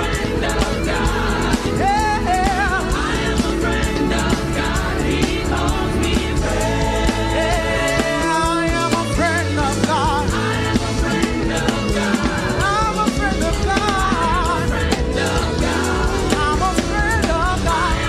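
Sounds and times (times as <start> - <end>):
drums: 0.0 - 18.0
gospel worship band playing: 0.0 - 18.0.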